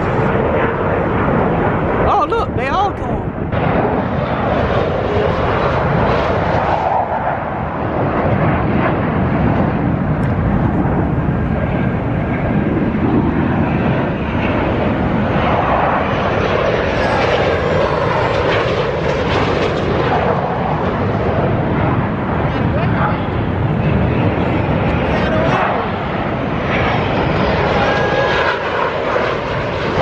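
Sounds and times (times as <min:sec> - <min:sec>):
jet aircraft roar: 0:00.0 - 0:30.0.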